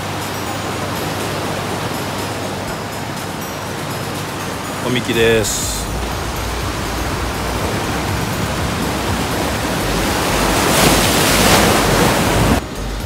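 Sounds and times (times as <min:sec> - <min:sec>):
surf breaking over rocks: 0:00.0 - 0:12.8.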